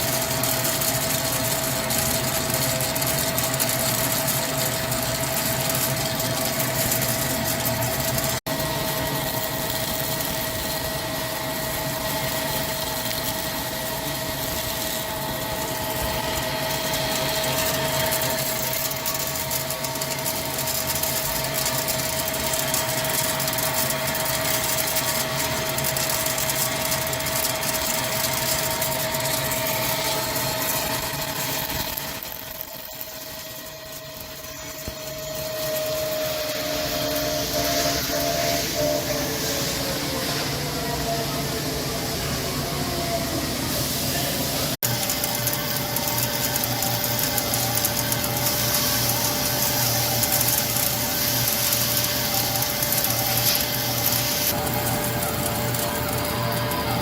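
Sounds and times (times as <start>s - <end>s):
lathe running with whine: 0.0s - 57.0s.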